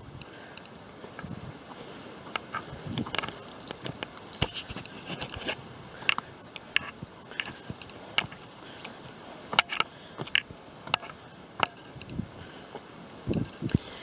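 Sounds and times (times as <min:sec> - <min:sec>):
footsteps on bush track: 0:00.0 - 0:14.0.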